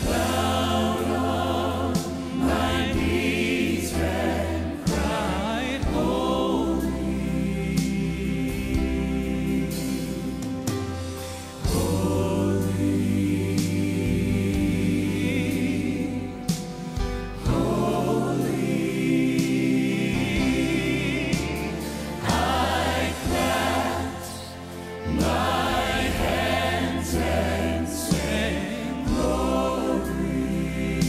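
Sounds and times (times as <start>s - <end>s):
gospel group singing in harmony: 0.0s - 31.0s
instrumental backing: 0.0s - 31.0s.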